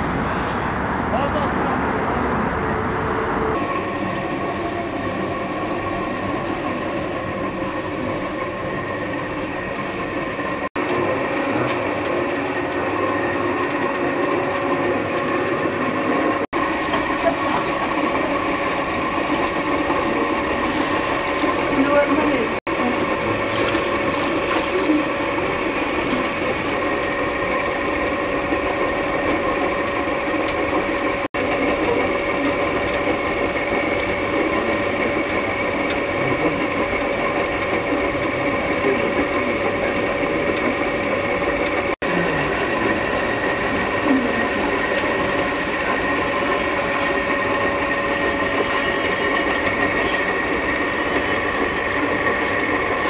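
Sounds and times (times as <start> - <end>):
dough kneading machine running: 0.0 - 53.0.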